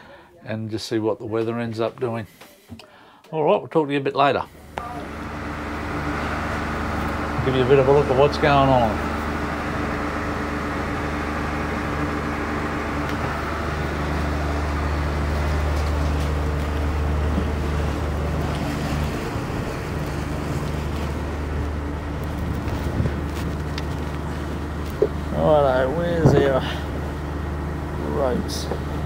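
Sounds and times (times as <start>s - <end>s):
boat engine idling: 4.5s - 29.0s.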